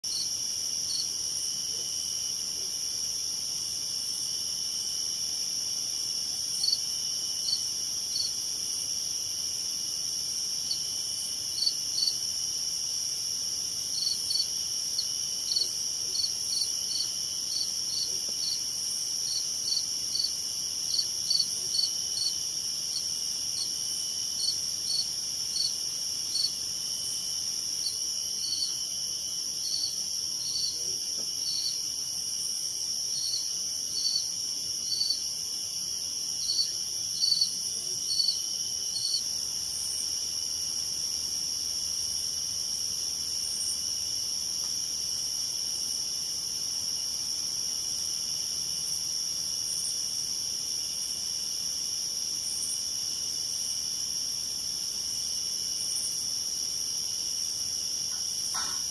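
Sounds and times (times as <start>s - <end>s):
cricket chirps: 0.0s - 58.9s
crickets trilling: 0.1s - 58.9s.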